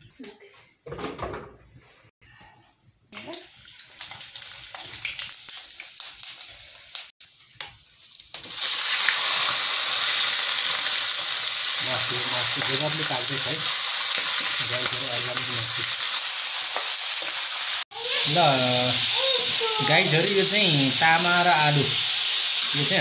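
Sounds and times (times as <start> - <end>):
chicken sizzling in hot oil: 3.2 - 23.0.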